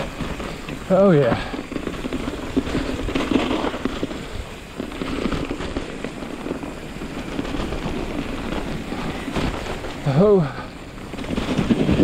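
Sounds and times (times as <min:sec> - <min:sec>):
bike tyres crackling on trail: 0:00.0 - 0:12.0.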